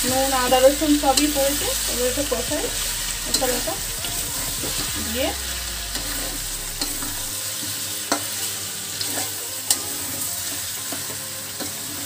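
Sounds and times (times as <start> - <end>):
metal spatula scraping a pan: 0.0 - 5.3, 5.9 - 12.0
masala sizzling in a pan: 0.0 - 12.0.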